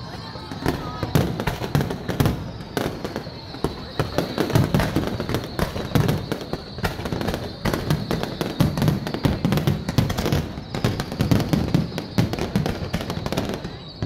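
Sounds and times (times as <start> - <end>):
fireworks bangs and crackles: 0.0 - 14.0
deep thuds of fireworks: 0.1 - 14.0.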